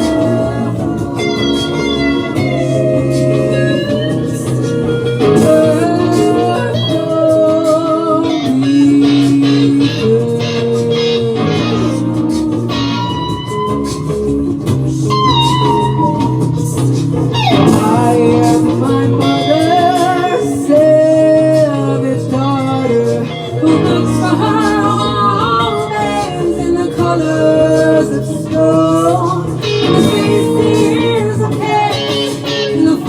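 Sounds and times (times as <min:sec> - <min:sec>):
guitar music: 0:00.0 - 0:33.0
steady bass notes: 0:00.0 - 0:33.0.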